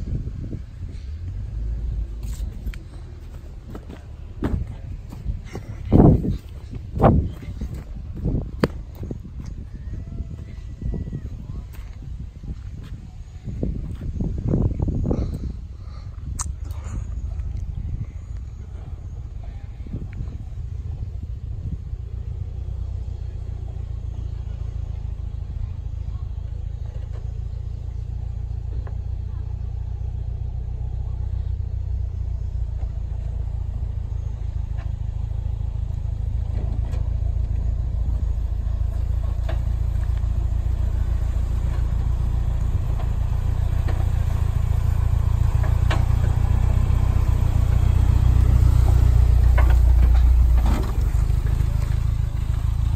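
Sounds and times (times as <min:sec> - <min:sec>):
truck engine rumbling: 0:00.0 - 0:52.9.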